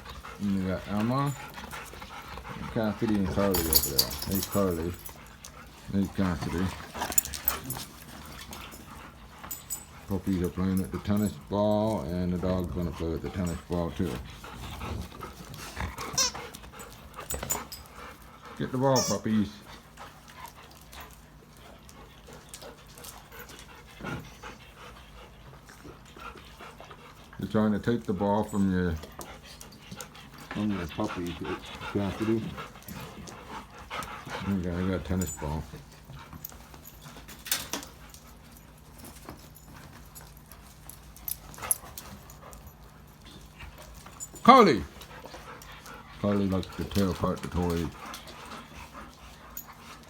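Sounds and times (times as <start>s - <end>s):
dogs scuffling and clicking: 0.0s - 50.0s.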